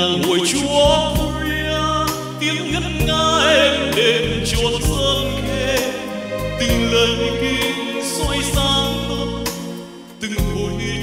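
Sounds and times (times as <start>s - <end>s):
instrumental backing track: 0.0s - 11.0s
man singing with vibrato: 0.0s - 11.0s.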